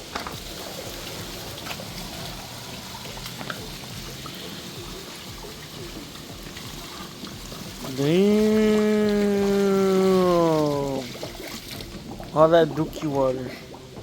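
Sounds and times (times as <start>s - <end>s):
floodwater trickling and pouring: 0.0s - 14.0s
water drips and splashes: 0.0s - 14.0s.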